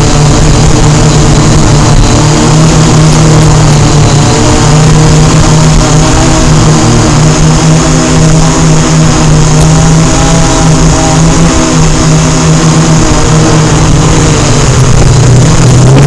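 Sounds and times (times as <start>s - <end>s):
quadcopter propellers humming: 0.0s - 16.0s.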